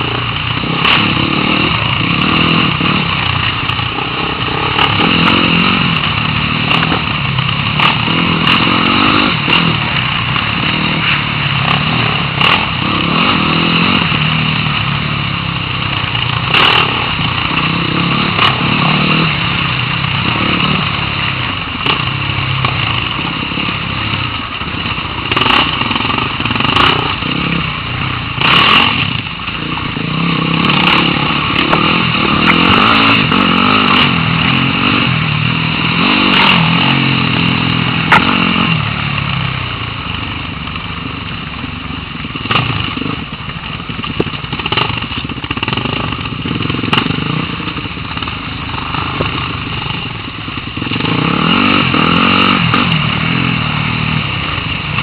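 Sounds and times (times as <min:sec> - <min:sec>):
dirt bike engine revving: 0:00.0 - 0:40.4, 0:41.0 - 0:55.0.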